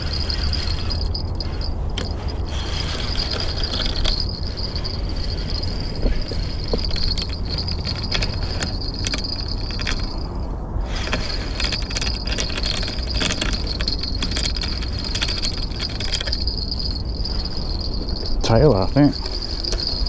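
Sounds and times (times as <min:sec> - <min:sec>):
fishing reel whirring: 0:00.0 - 0:10.2, 0:10.8 - 0:20.0.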